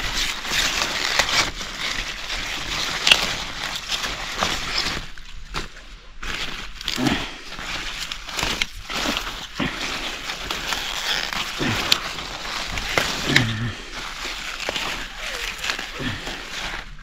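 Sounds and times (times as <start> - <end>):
stems snapping: 0.0 - 5.7, 8.1 - 16.9
leaves rustling: 0.0 - 17.0.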